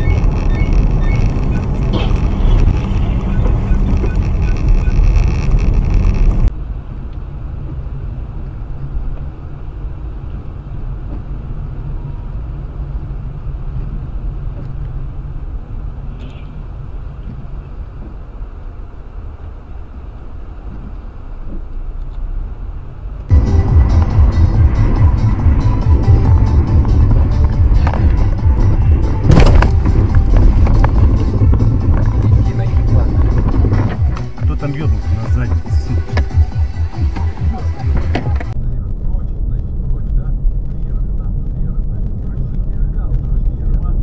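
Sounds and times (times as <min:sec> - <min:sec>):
car engine and tyre rumble: 0:00.0 - 0:44.0
hissy road noise: 0:00.0 - 0:44.0.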